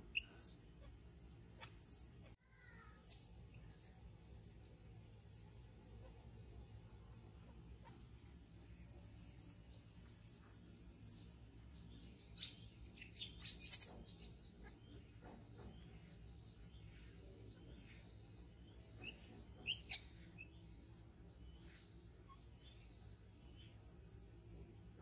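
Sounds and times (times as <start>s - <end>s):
small animal chirps and squeaks: 0.0s - 24.4s
steady low background noise: 0.0s - 25.0s.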